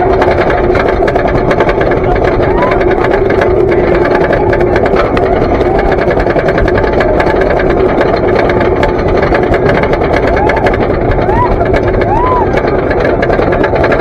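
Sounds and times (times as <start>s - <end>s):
rapid clicks: 0.0s - 14.0s
roller coaster lift chain clatter: 0.0s - 14.0s.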